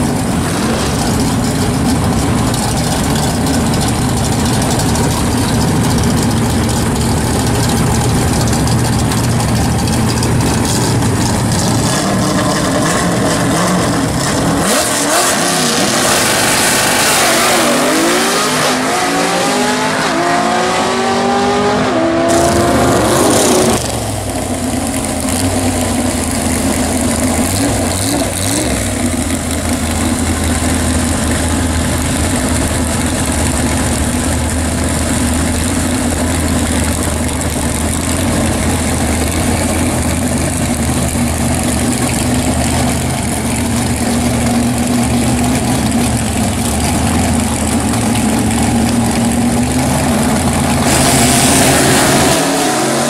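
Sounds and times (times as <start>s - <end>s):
drag car engine idling loudly: 0.0s - 18.3s, 22.3s - 53.0s
drag car engine revving as it launches: 0.0s - 31.1s, 31.7s - 53.0s.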